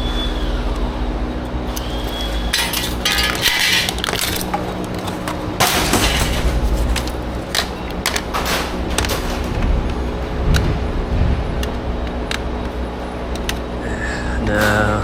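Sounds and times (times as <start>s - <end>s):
steady low hum: 0.0s - 15.0s
plastic and metal parts clattering: 1.8s - 13.8s.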